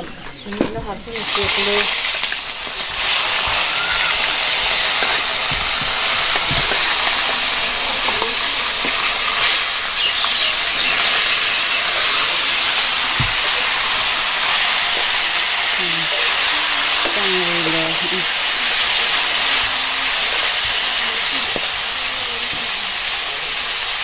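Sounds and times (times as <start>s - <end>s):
food sizzling in hot oil: 1.1s - 24.0s.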